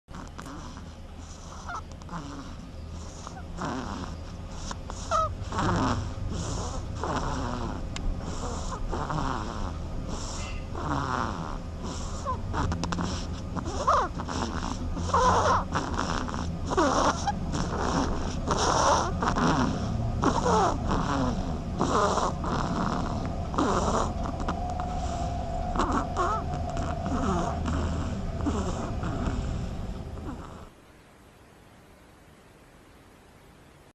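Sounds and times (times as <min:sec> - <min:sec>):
squeaky snoring: 0:00.1 - 0:30.8
low hum: 0:00.9 - 0:09.0, 0:14.7 - 0:33.7.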